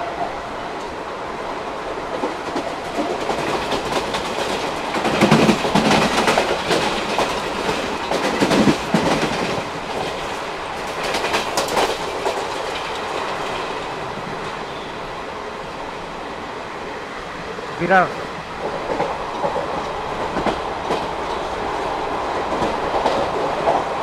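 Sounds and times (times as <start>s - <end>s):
train wheels clattering over rails: 1.6s - 16.0s, 17.3s - 24.0s.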